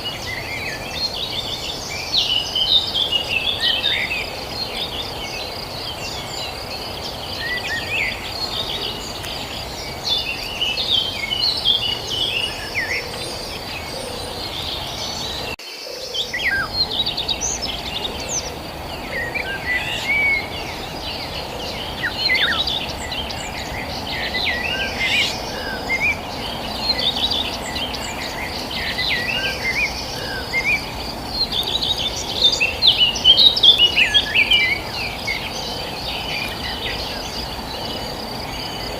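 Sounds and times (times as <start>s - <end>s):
birds chirping: 0.0s - 38.9s
insect trill: 0.0s - 38.9s.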